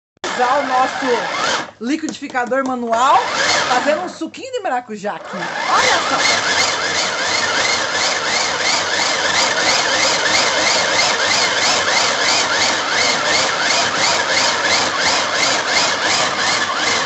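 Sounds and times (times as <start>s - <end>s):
manual blender whirring: 0.2s - 4.3s, 5.1s - 17.0s.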